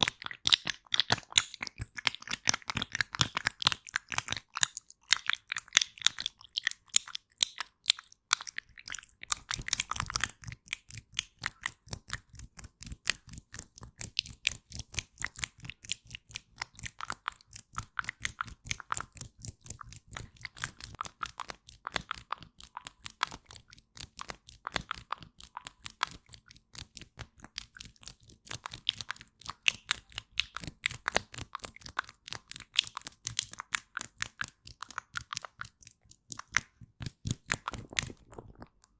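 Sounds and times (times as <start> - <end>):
gel being wiped and smeared: 0.0 - 38.9.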